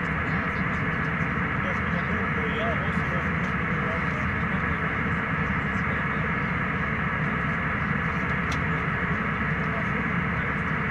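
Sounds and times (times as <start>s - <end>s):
airliner cabin engine and airflow noise: 0.0s - 10.9s.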